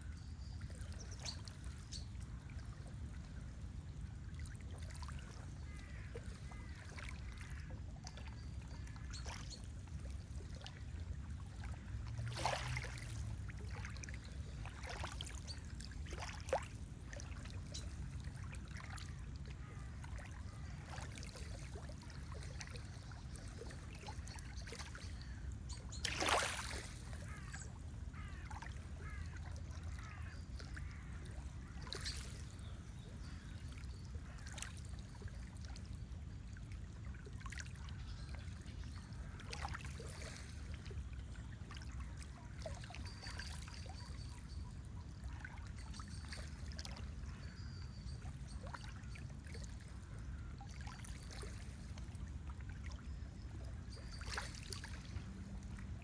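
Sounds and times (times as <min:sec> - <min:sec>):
lake water lapping: 0:00.1 - 0:56.0
water splashes: 0:03.9 - 0:56.0.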